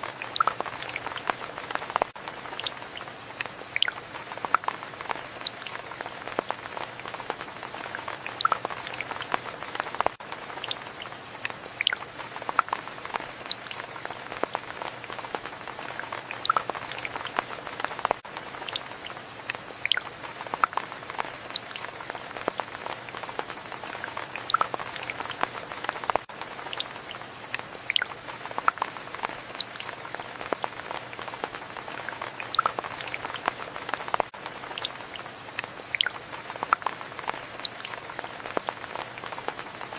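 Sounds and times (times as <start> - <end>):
drips and patters: 0.0 - 39.9
rain hiss: 0.0 - 39.9.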